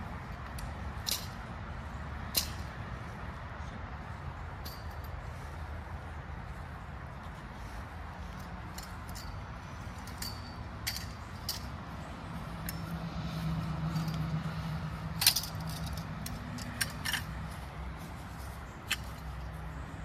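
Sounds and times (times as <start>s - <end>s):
tent poles clinking and clattering: 0.0s - 20.0s.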